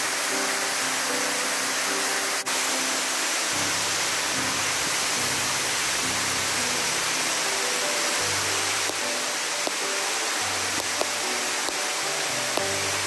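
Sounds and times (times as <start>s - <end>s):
soft background music: 0.0s - 13.0s
waterfall rushing: 0.0s - 13.0s.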